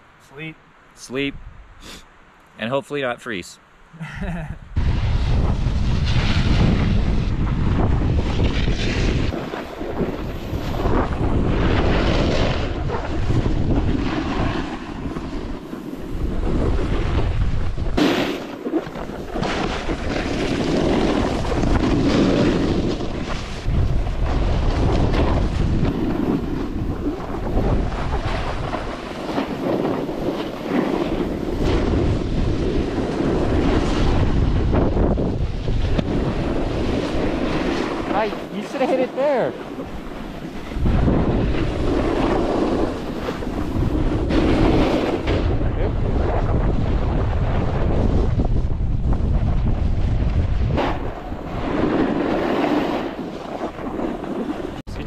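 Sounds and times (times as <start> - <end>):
snowboard scraping over snow: 4.2 - 55.0
wind buffeting microphone: 4.2 - 55.0.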